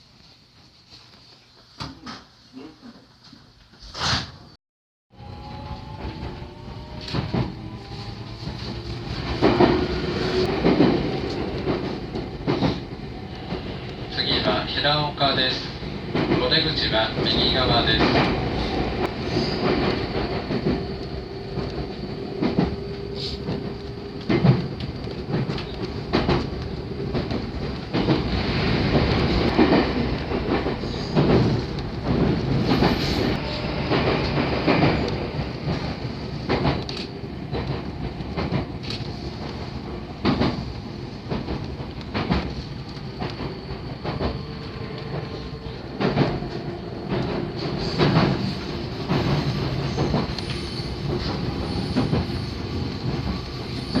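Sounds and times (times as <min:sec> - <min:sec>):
train rumbling: 0:05.1 - 0:54.0.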